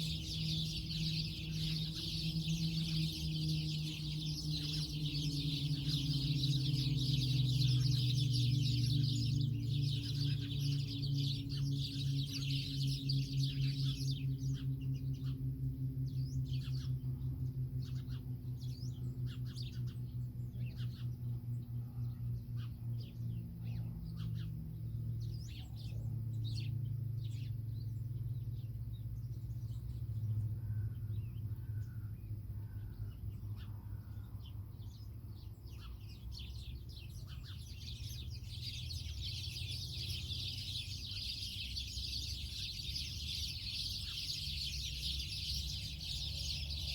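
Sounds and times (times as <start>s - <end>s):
low pulsing hum: 0.0s - 46.9s
small birds chirping: 0.0s - 46.9s.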